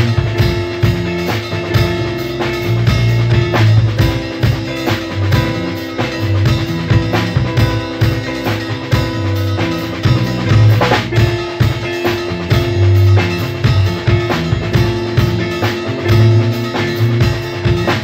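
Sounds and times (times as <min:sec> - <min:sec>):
bass guitar: 0:00.0 - 0:18.0
drum kit beat: 0:00.0 - 0:18.0
electric guitar: 0:00.0 - 0:18.0.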